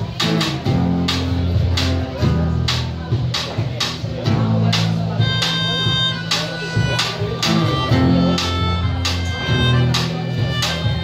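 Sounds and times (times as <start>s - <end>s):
bass notes: 0.0s - 11.0s
guitar: 0.0s - 11.0s
steady drum beat: 0.0s - 11.0s.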